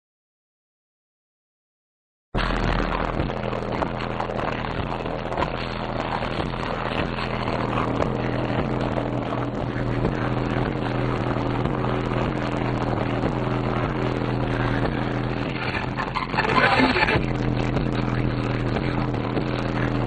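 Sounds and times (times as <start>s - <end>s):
bass-heavy music from subwoofers: 2.4s - 20.0s.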